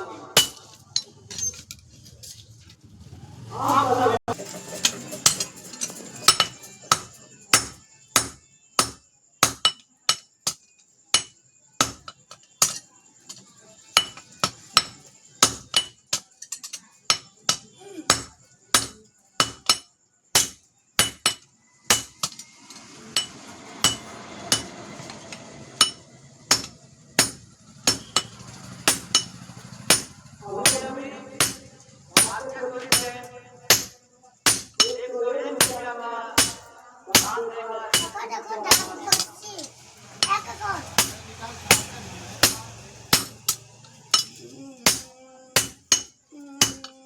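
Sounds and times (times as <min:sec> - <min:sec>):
hammer striking steel on anvil: 0:00.4 - 0:01.5, 0:04.8 - 0:12.9, 0:14.0 - 0:22.4, 0:23.1 - 0:35.0, 0:35.6 - 0:35.8, 0:36.4 - 0:39.3, 0:40.1 - 0:46.9.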